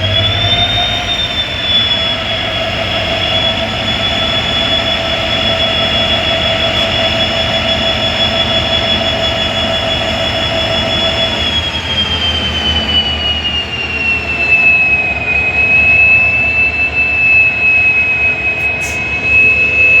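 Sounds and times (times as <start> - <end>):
locomotive high-pitched whine: 0.0 - 20.0
locomotive low hum: 0.0 - 20.0.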